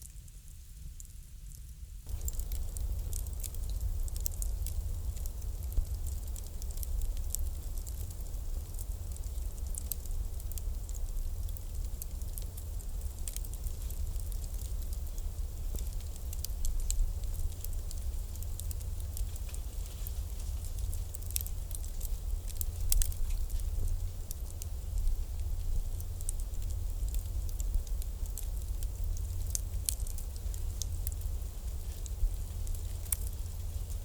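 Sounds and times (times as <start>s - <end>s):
bonfire crackling: 0.0s - 34.0s
low rumble of fire: 0.0s - 34.0s.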